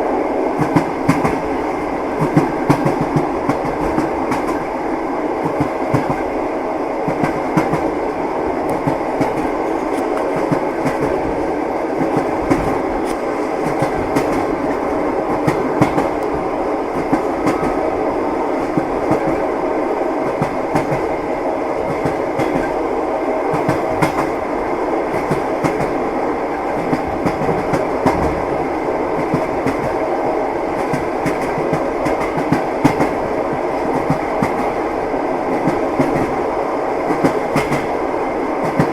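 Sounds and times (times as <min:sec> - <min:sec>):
train rolling rumble: 0:00.0 - 0:38.9.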